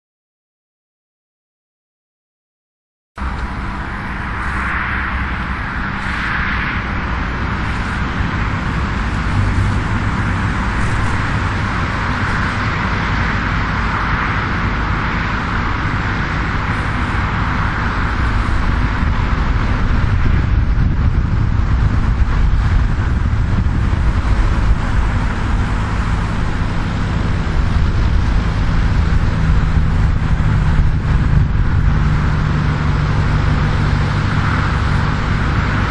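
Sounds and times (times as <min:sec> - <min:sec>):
tractor diesel engine under load: 0:03.2 - 0:35.9.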